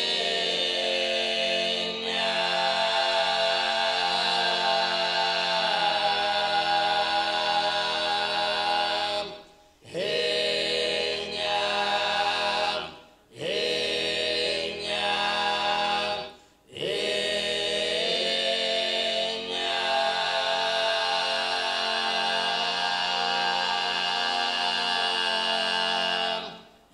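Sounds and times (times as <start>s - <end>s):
men singing in close harmony: 0.0s - 26.7s.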